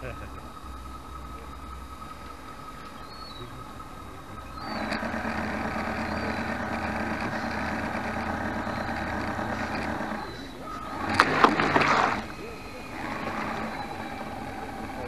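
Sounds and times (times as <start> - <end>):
small electric motor running: 0.9 - 15.0.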